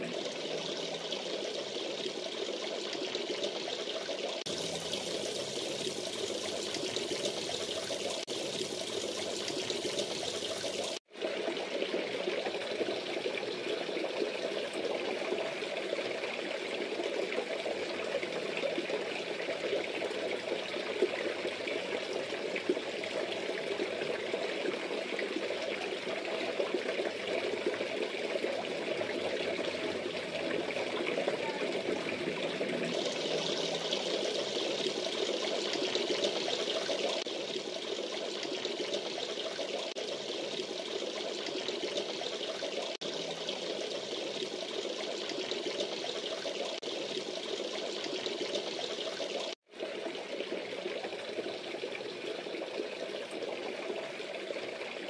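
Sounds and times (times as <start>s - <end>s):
water pouring into pond: 0.0s - 55.0s.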